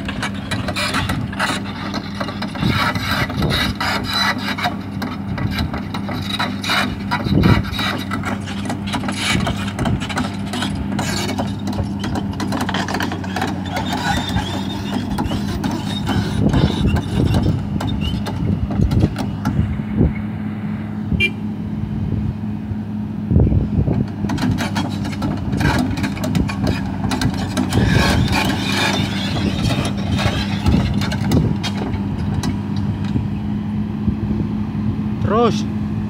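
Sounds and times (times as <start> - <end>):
crawler tracks clanking and rattling: 0.0 - 20.2, 23.8 - 33.4
diesel engine running: 0.0 - 36.0.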